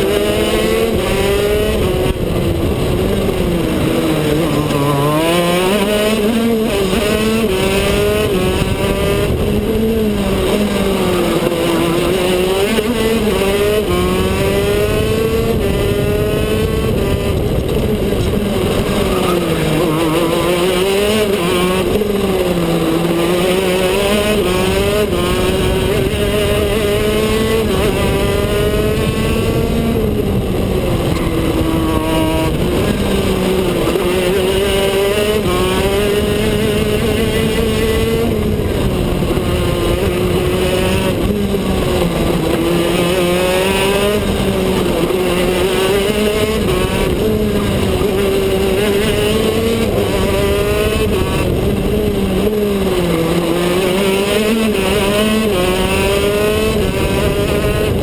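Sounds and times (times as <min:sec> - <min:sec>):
kart engine at racing speed: 0:00.0 - 0:58.0.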